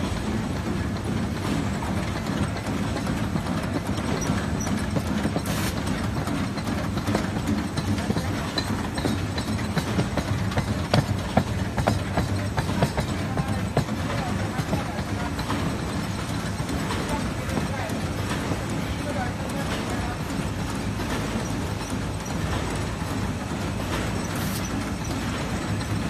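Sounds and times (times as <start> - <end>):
folding machine rumbling and clattering: 0.0 - 26.0.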